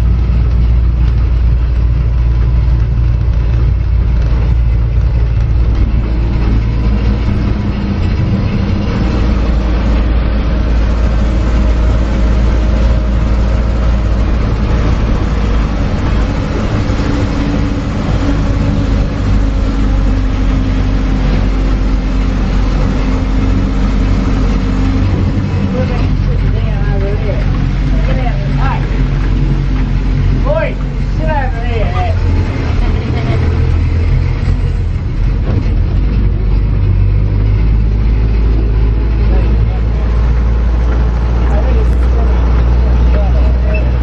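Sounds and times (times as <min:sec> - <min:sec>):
vehicle engine low drone: 0:00.0 - 0:44.0.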